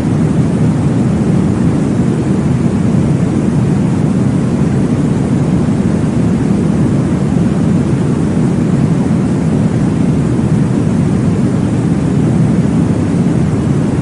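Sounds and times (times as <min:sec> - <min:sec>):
low-pitched white noise rushing: 0:00.0 - 0:14.0.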